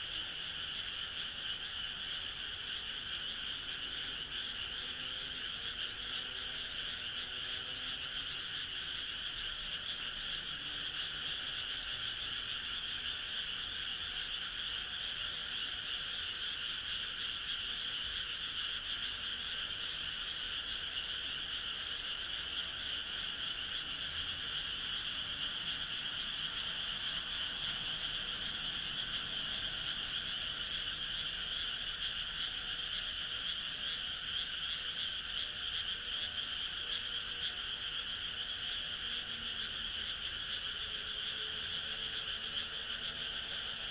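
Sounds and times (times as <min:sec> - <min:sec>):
frog chorus trilling: 0:00.0 - 0:43.9.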